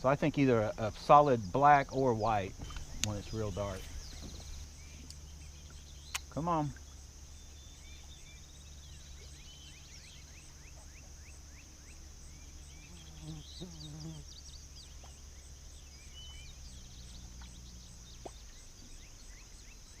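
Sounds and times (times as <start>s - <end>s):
high insect drone: 0.0s - 20.0s
small birds chirping: 0.0s - 20.0s.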